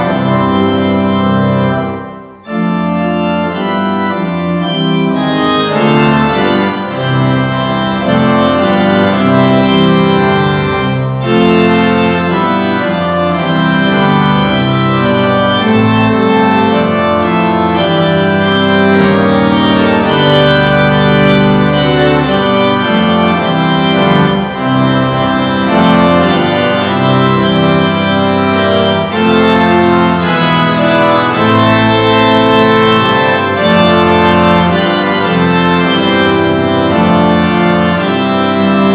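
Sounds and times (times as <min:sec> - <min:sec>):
organ chords: 0:00.0 - 0:38.9.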